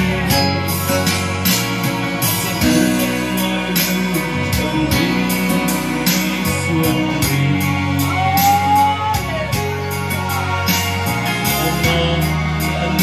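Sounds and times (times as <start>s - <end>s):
backing track with guitar and beat: 0.0s - 13.0s
man singing into microphone: 0.0s - 13.0s.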